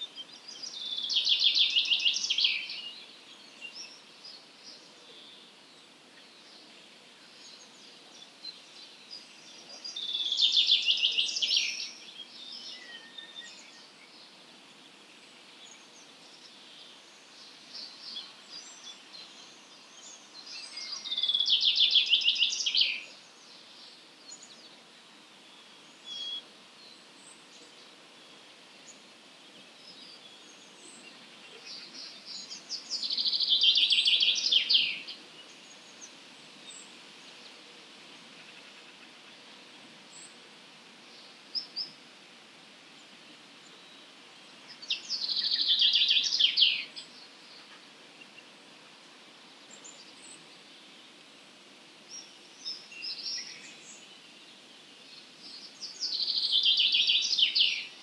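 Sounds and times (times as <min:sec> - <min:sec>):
songbird singing: 0:00.0 - 0:42.1, 0:42.9 - 0:58.0
low background noise: 0:00.0 - 0:58.0.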